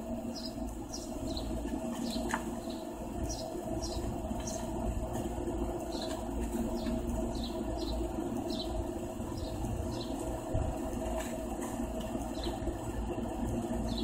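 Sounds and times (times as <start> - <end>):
steady low hum: 0.0 - 14.0
small birds chirping: 0.2 - 11.2, 12.0 - 12.8, 13.7 - 14.0.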